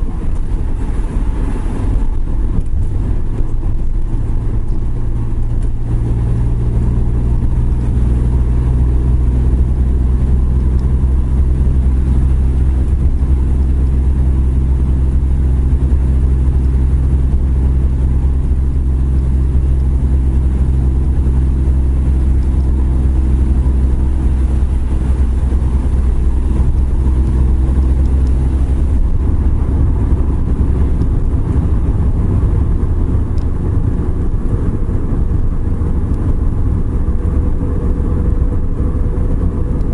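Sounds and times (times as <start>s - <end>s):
road noise: 0.0s - 39.9s
van engine droning: 0.0s - 39.9s.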